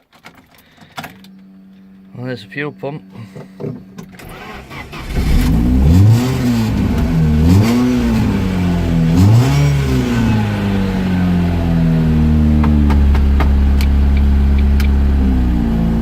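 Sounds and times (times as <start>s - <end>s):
car engine cranking and starting: 0.0s - 16.0s
car engine revving: 1.4s - 16.0s.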